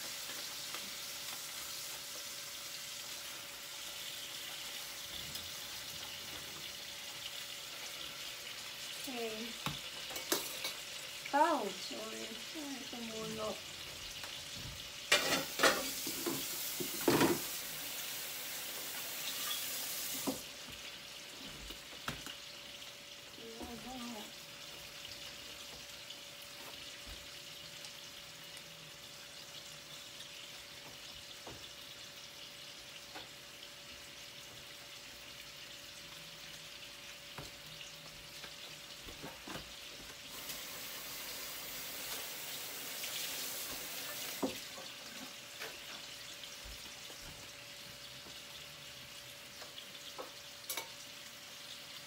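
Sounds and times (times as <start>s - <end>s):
chicken sizzling in frying pan: 0.0s - 52.0s.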